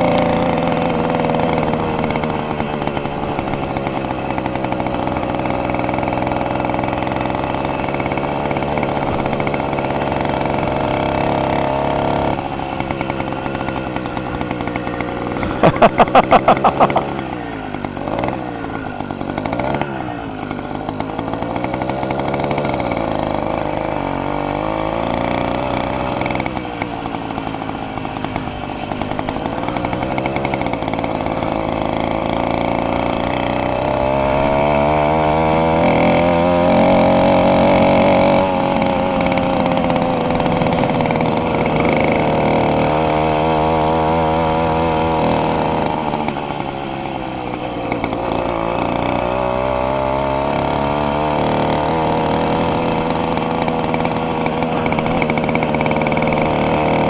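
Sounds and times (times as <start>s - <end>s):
two-stroke engine running: 0.0s - 57.0s.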